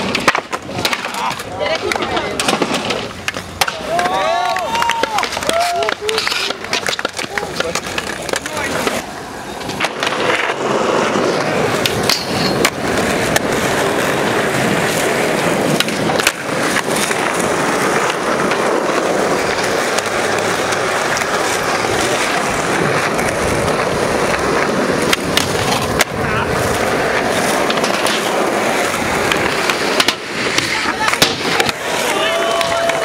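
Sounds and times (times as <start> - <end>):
skateboard tail popping and landing: 0.0 - 33.0
skateboard wheels rolling on asphalt: 0.0 - 33.0.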